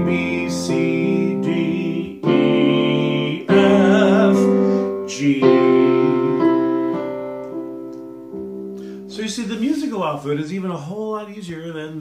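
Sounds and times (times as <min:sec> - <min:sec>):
electronic keyboard piano chords: 0:00.0 - 0:10.0.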